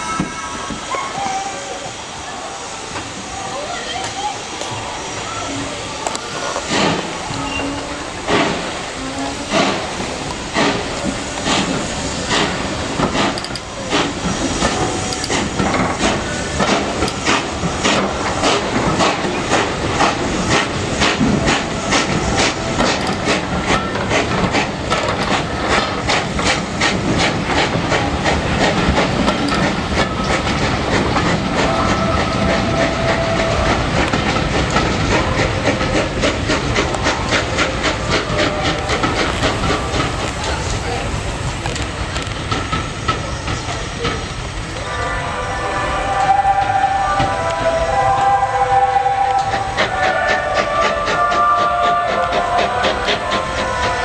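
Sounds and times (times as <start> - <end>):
steam hiss: 0.0 - 54.0
steam locomotive chuffing: 0.0 - 54.0.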